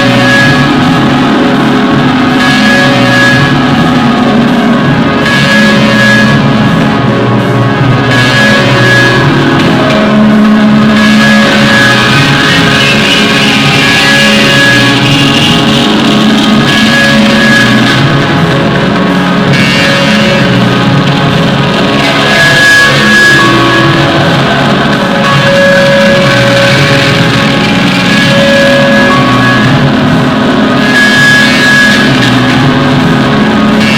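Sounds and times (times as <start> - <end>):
loud guitar rock music: 0.0 - 33.9.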